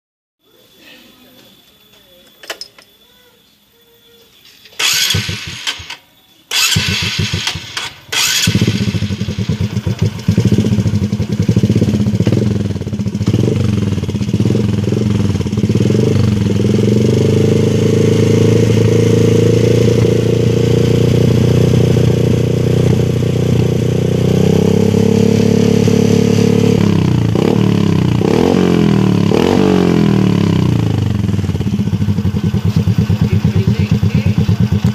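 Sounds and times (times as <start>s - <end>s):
motorcycle engine revving: 4.8s - 34.9s.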